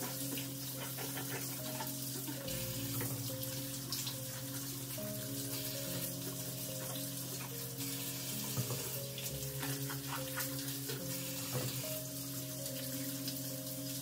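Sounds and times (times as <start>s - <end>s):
faucet running into sink: 0.0s - 14.0s
soft background music: 0.0s - 14.0s
vegetables rinsed by hand: 0.0s - 14.0s.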